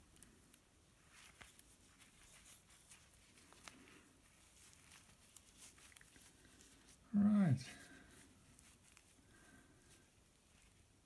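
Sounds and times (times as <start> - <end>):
light clicks and rustles of hands: 0.0 - 7.0, 7.6 - 11.0.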